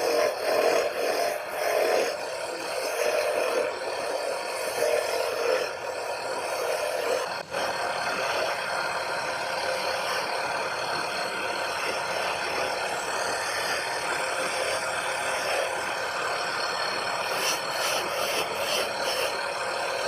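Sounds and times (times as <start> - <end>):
power tool grinding: 0.0 - 20.0.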